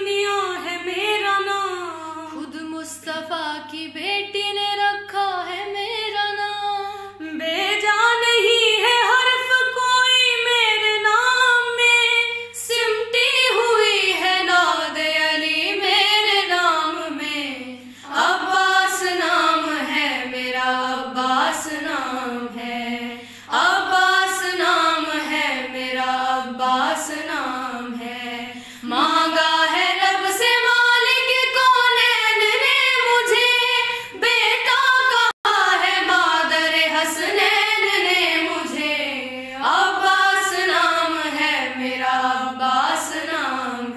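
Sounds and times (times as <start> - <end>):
girls singing together: 0.0 - 43.9.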